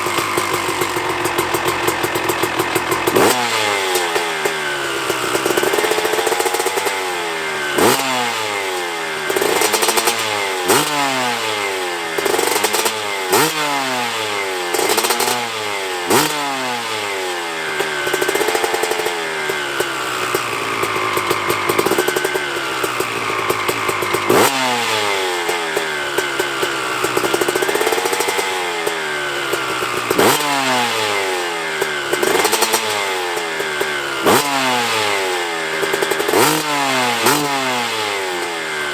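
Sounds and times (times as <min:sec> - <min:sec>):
two-stroke dirt bike engine revving: 0:00.0 - 0:38.9.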